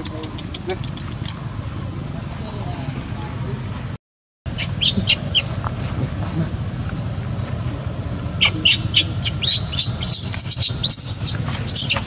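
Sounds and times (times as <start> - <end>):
birds chirping: 0.0 - 3.9, 4.5 - 12.0.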